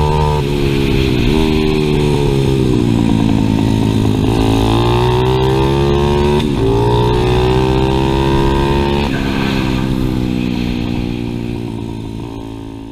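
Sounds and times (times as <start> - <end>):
motorbike engine revving: 0.0 - 12.9.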